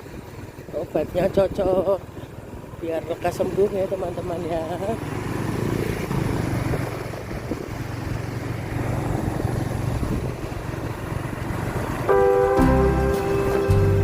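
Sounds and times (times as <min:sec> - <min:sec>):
low engine hum: 0:00.0 - 0:14.0
rushing road noise: 0:00.0 - 0:14.0.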